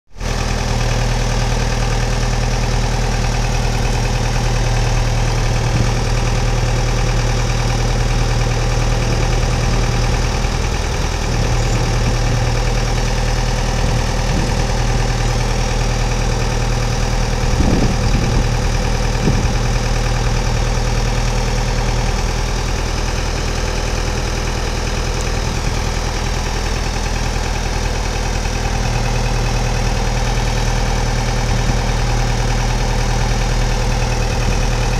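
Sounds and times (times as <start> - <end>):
diesel engine idling: 0.2 - 34.9
low clatter: 2.5 - 34.9.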